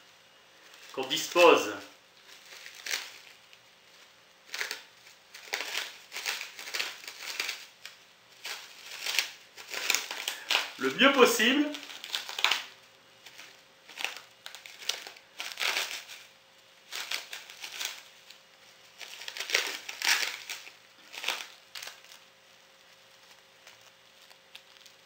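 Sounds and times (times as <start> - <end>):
cling film crinkling: 0.0 - 25.0.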